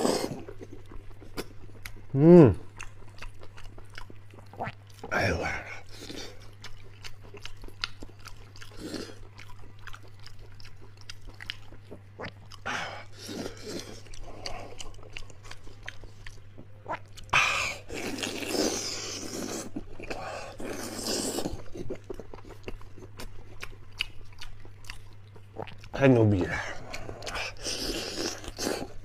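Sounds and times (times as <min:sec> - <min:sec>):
wet chewing and smacking: 0:00.0 - 0:29.0.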